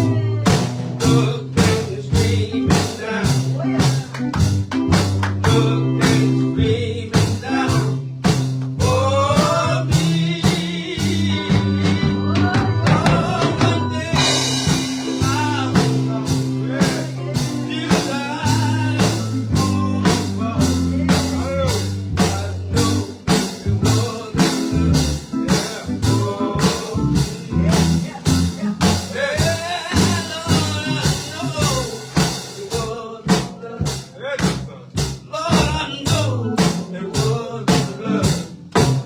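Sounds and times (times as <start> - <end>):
gospel band music: 0.0 - 39.0
steady drum beat: 0.0 - 39.0.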